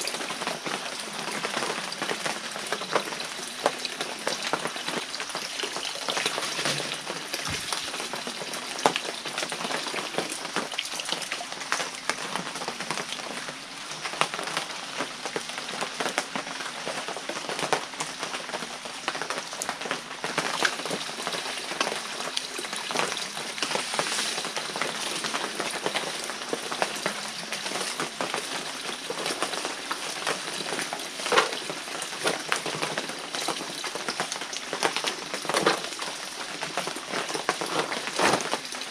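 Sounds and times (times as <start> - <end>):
stream water trickling and splashing: 0.0 - 38.9.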